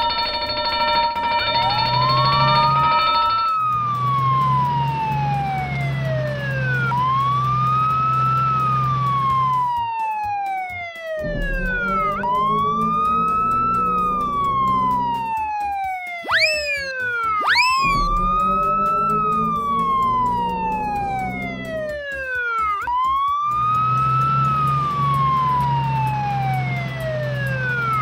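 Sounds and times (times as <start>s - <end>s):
fire truck siren wailing: 0.0s - 28.0s
siren whoops: 0.0s - 28.0s.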